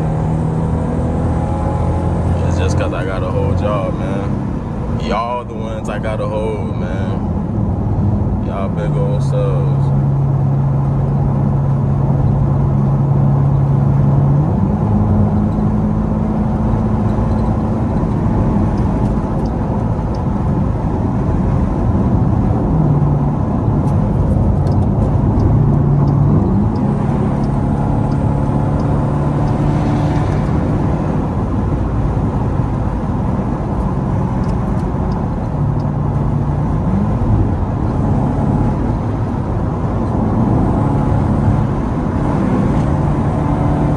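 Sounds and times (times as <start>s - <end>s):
car exhaust droning: 0.0s - 43.7s
road noise: 0.0s - 43.9s.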